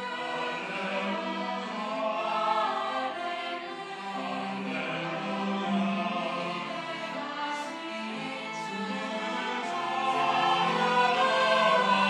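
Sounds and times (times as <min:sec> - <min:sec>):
church choir singing: 0:00.0 - 0:12.0.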